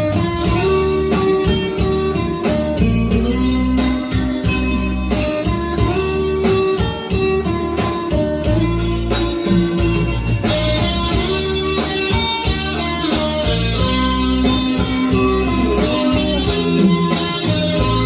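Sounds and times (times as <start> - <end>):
instrumental pop backing track: 0.0 - 18.0.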